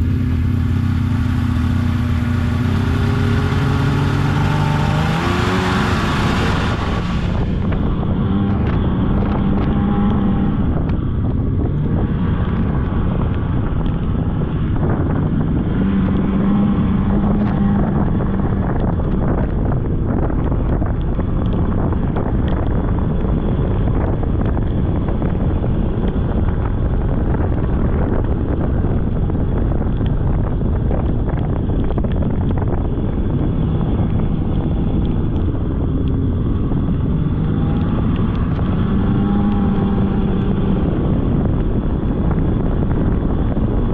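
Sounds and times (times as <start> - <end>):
snowmobile engine running: 0.0 - 43.9
wind buffeting microphone: 0.0 - 43.9.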